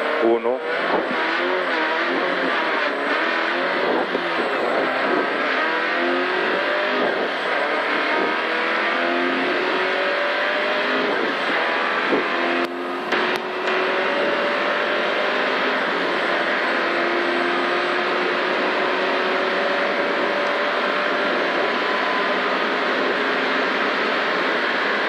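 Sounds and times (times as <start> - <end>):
rally car engine accelerating: 0.0 - 25.0.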